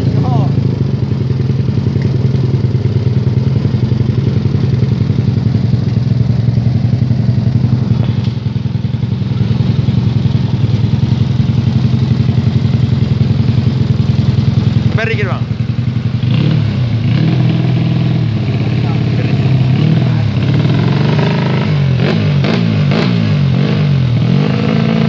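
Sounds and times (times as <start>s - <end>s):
motorcycle engine running at low revs: 0.0s - 25.0s.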